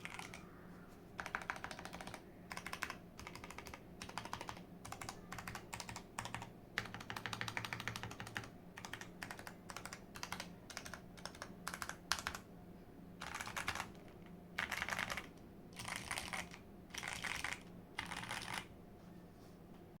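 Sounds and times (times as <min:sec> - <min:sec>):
typing on mechanical keyboard: 0:00.0 - 0:00.5, 0:01.2 - 0:12.4, 0:13.2 - 0:18.7.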